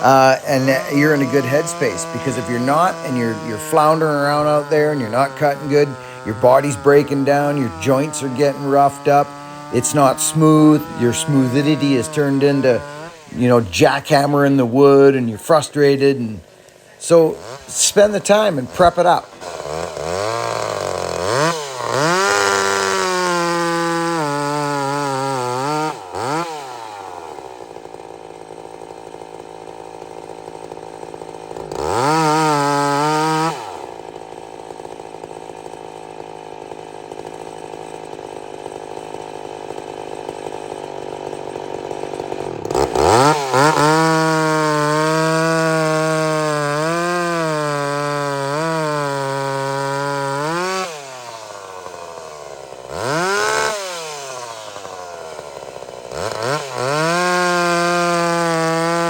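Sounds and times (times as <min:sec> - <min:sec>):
two-stroke chainsaw revving: 0:00.0 - 0:59.0.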